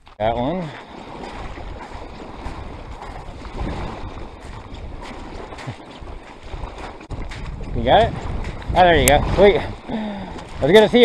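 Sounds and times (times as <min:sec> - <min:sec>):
footsteps crunching on gravel: 0:00.0 - 0:11.0
small waves lapping on gravel: 0:00.0 - 0:11.0
wind buffeting microphone: 0:00.3 - 0:11.0.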